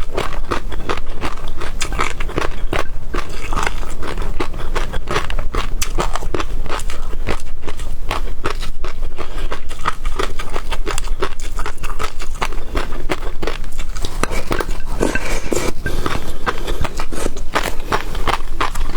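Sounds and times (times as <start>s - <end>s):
crunching and chewing food: 0.0s - 18.9s.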